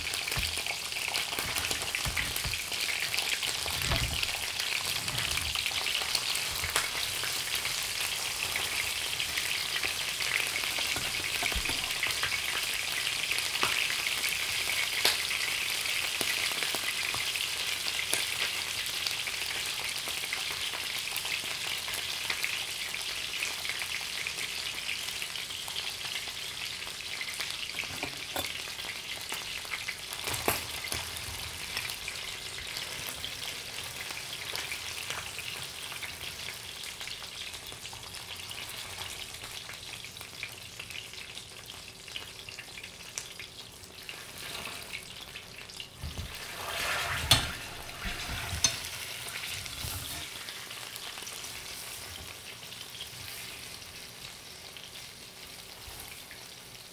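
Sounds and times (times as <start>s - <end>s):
fish sizzling in a pan: 0.0s - 56.9s.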